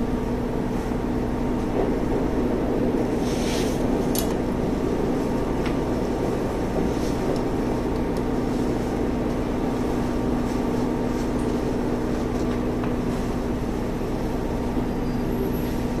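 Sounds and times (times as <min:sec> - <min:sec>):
railcar diesel engine humming: 0:00.0 - 0:16.0.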